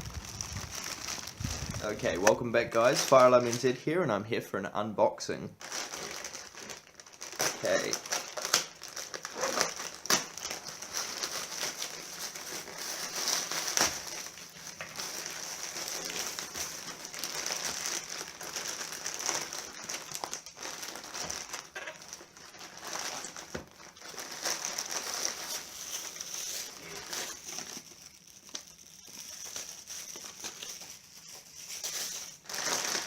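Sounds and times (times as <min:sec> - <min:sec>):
packaging crackling and rustling: 0:00.0 - 0:03.8, 0:05.6 - 0:33.0.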